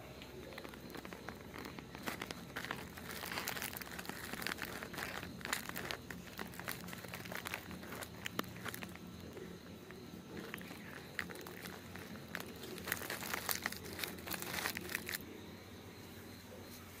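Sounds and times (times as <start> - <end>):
crinkly rustling: 0.0 - 15.3.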